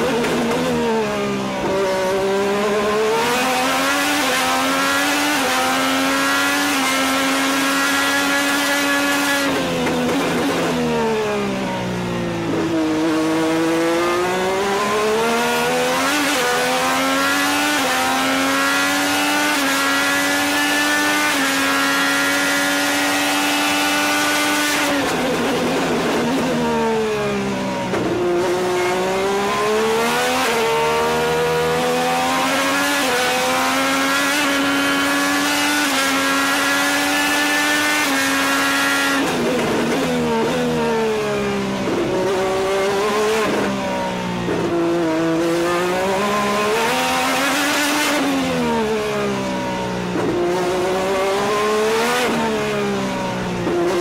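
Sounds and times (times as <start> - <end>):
racing car engine: 0.0 - 54.0.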